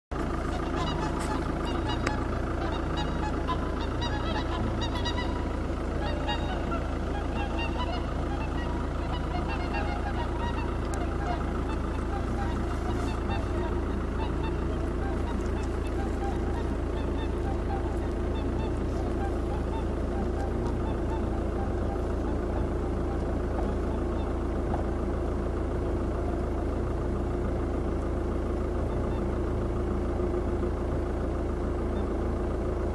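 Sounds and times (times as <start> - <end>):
car engine idling: 0.1 - 32.9
geese honking: 0.1 - 32.9
steady low rumble: 0.1 - 32.9.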